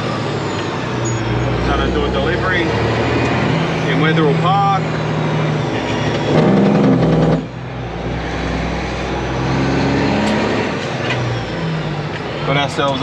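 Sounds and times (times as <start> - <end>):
diesel truck engine pulling: 0.0 - 13.0.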